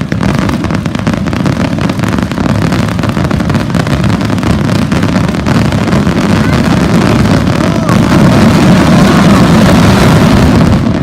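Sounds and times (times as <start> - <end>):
fireworks barrage rumbling: 0.0 - 11.0.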